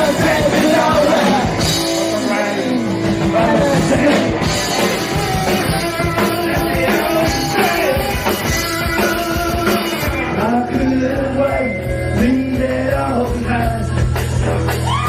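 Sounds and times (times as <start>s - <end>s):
man singing: 0.0s - 14.3s
rock band playing live: 0.0s - 15.0s.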